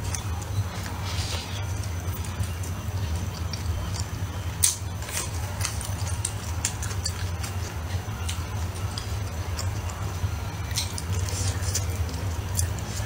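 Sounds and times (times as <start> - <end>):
chewing food: 0.0 - 13.0
steady low hum: 0.0 - 13.0.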